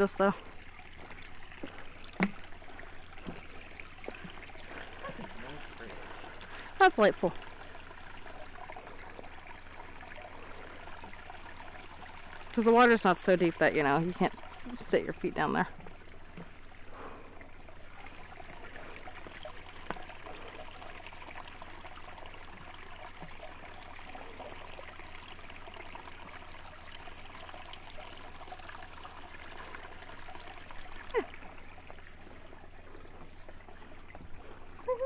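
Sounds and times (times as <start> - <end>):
water trickling over rocks: 0.0 - 35.0.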